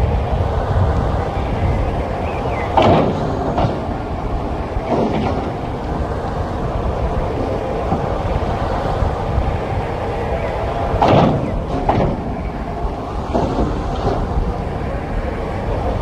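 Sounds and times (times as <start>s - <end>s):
steam locomotive rumbling: 0.0s - 16.0s.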